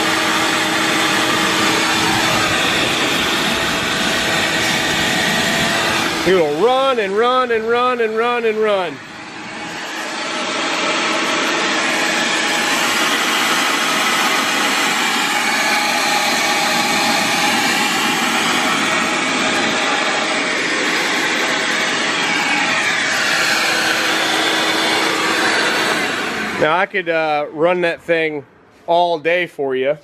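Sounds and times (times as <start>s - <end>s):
shop vacuum running: 0.0s - 29.3s.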